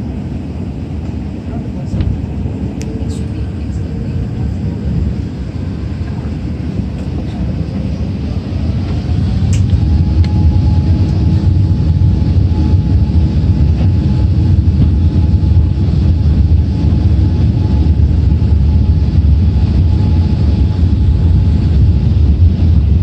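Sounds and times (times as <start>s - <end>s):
airplane cabin low rumble: 0.0s - 23.0s
jet engines whining: 0.0s - 23.0s.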